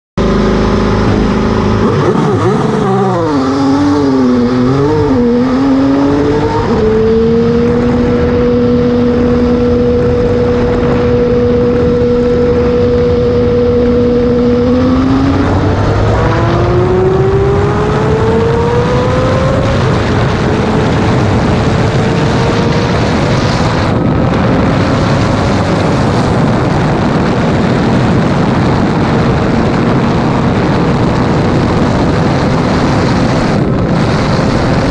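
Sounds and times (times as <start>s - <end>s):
race car engine revving: 0.2s - 34.9s.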